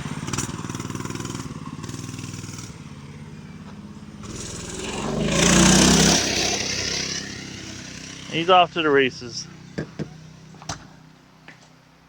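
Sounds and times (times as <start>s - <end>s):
mini bike engine running: 0.0s - 11.7s.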